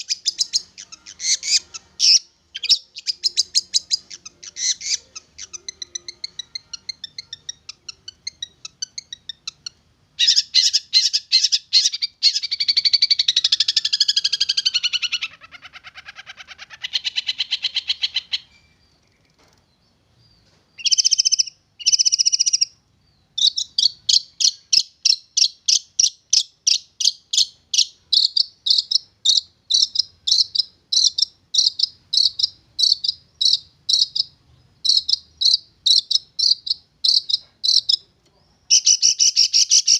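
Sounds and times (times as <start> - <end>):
bird singing and chattering: 0.0 - 39.9.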